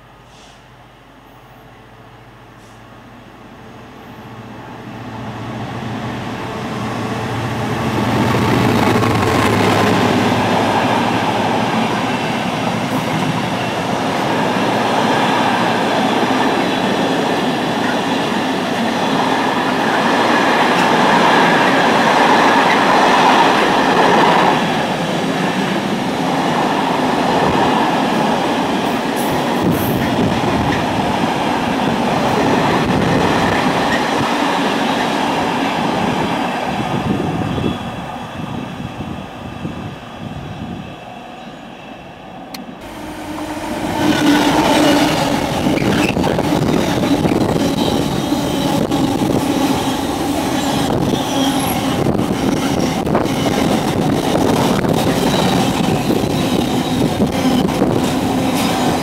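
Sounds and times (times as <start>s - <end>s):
diesel locomotive engine drone: 0.0s - 59.0s
train wheels rumbling on rails: 4.9s - 41.7s, 42.3s - 59.0s.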